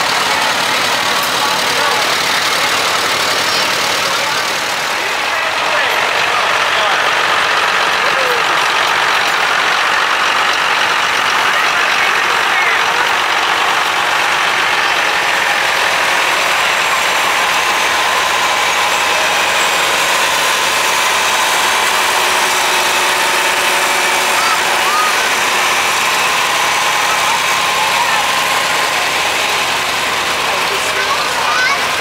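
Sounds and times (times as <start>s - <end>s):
tractor engines running: 0.0s - 32.0s.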